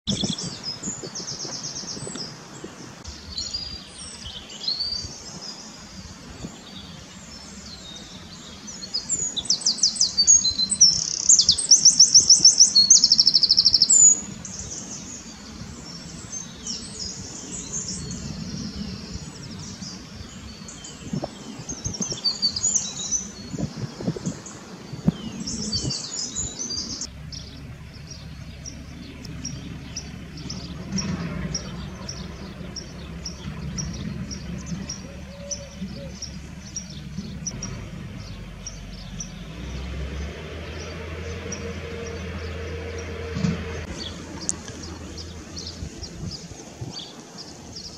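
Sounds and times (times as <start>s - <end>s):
bird singing fast trills: 3.2s - 47.9s.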